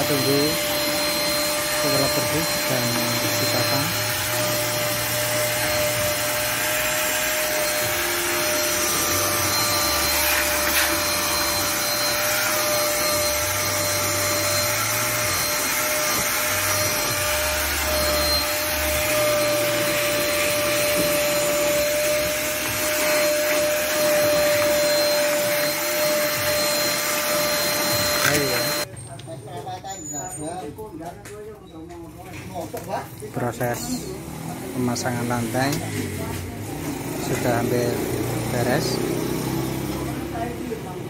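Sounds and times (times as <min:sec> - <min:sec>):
vacuum cleaner running: 0:00.0 - 0:28.9, 0:33.6 - 0:41.0.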